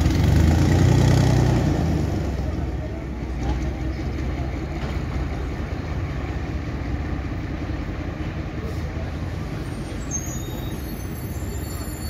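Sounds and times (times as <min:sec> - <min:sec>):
diesel railcar engine running: 0:00.0 - 0:12.0.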